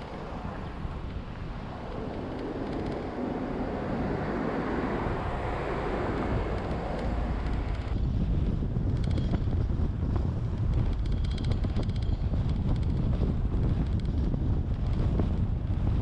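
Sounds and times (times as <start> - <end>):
tyre and road noise: 0.0 - 16.0
wind on microphone: 0.0 - 16.0.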